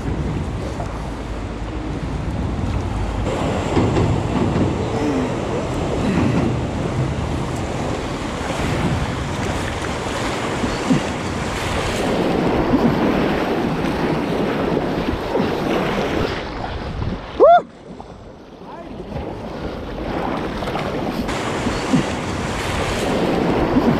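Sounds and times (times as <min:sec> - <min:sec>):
water sloshing and splashing: 0:00.0 - 0:23.9
wind on microphone: 0:00.0 - 0:23.9.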